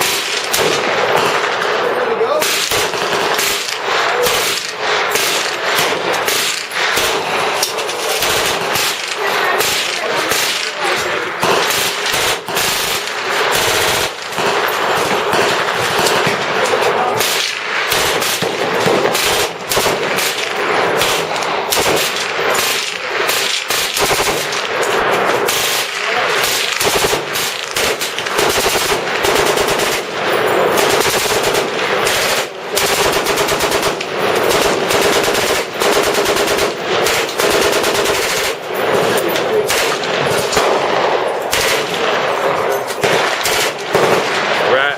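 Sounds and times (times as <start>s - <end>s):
machine gun bursts: 2.4s - 40.6s, 43.0s - 44.2s.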